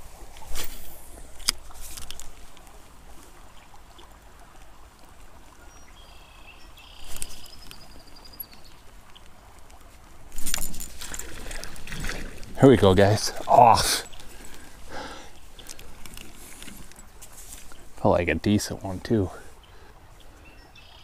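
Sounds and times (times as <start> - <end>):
stream running: 0.0 - 21.0.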